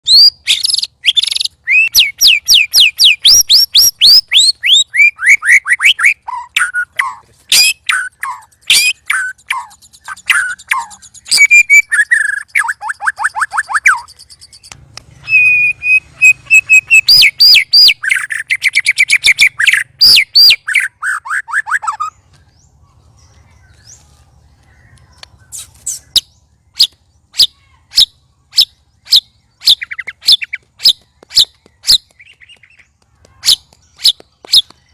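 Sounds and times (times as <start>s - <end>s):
bird sharp clipped calls: 0.0s - 34.9s
birds singing whistles and trills: 0.0s - 34.9s.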